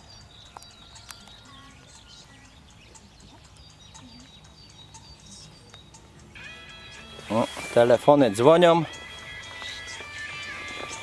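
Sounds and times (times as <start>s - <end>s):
small birds chirping and whistling: 0.0s - 11.0s.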